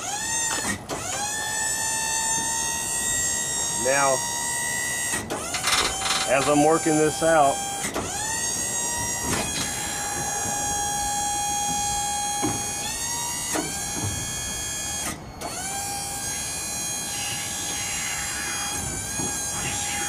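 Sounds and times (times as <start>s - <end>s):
hydraulic pump motor whining: 0.0s - 20.0s.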